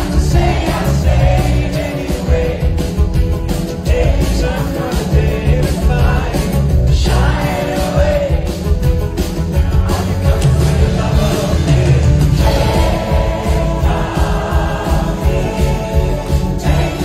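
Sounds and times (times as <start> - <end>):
man singing: 0.0 - 8.8, 9.4 - 17.0
acoustic guitar: 0.0 - 17.0
bass: 0.0 - 17.0
drums: 0.0 - 17.0.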